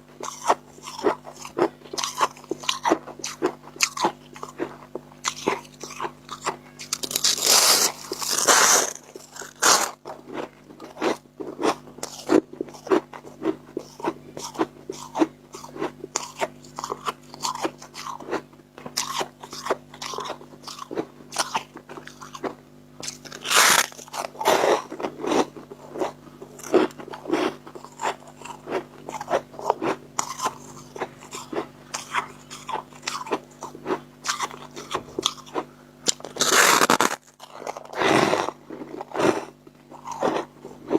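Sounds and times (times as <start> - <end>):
person crunching frost: 0.2 - 40.9.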